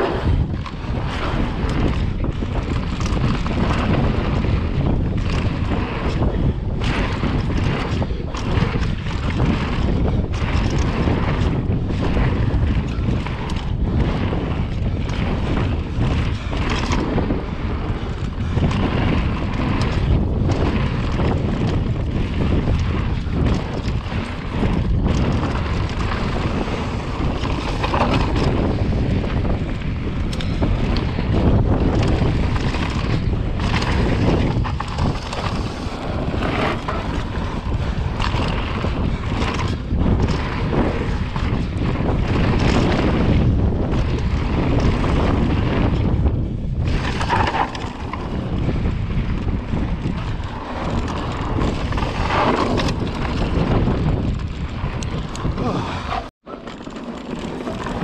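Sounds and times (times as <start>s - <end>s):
bike knocks and rattles: 0.0s - 58.0s
bike tyre noise: 0.0s - 58.0s
wind buffeting microphone: 0.0s - 58.0s.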